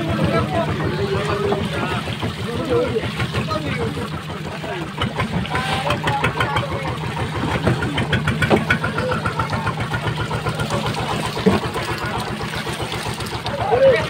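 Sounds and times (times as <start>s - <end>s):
boat engine idling: 0.0s - 14.0s
fish splashing in a net: 0.0s - 14.0s.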